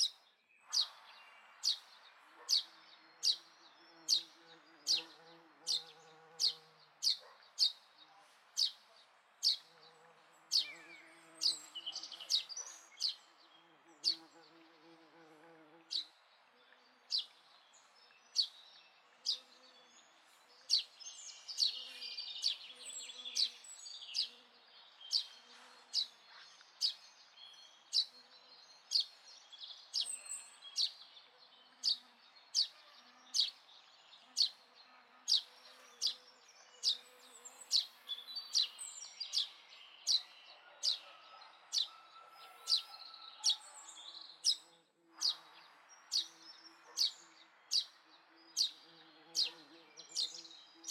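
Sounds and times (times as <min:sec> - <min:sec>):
birds twittering: 0:00.0 - 0:07.9, 0:10.5 - 0:16.1, 0:17.0 - 0:50.9.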